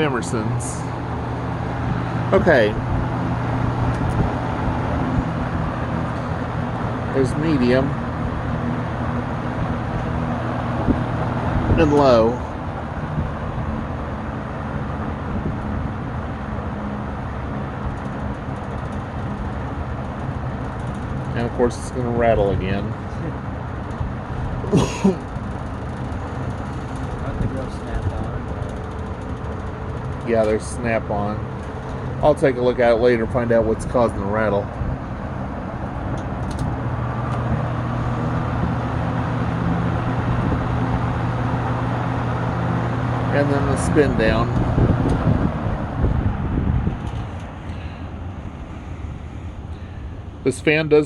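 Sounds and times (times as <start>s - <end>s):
fan airflow noise: 0.0s - 51.0s
low motor hum: 0.0s - 51.0s.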